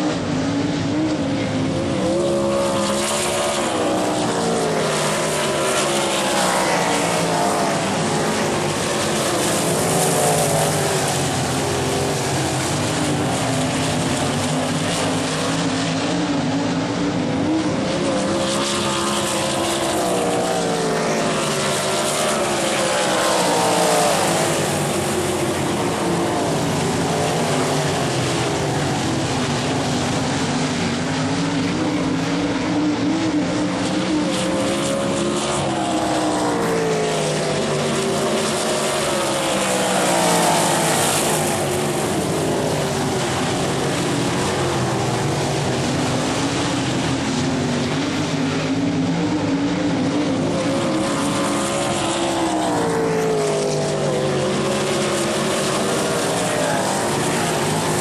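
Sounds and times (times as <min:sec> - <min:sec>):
sprint car engines racing: 0:00.0 - 0:58.0.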